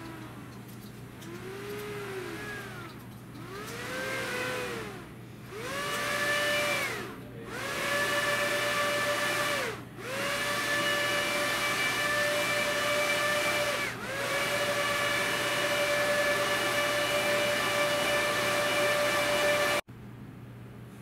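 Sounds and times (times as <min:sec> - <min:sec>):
electric propeller motors whining: 0:00.0 - 0:19.8.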